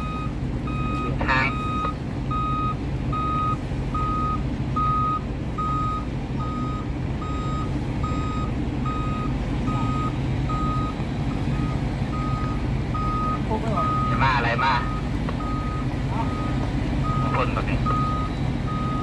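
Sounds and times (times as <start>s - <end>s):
crane engine running: 0.0s - 19.0s
reversing alarm beeping: 0.0s - 19.0s.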